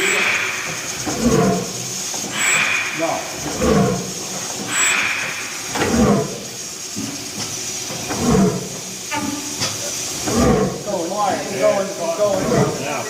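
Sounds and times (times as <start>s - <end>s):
engine chuffing and hissing: 0.0s - 13.0s.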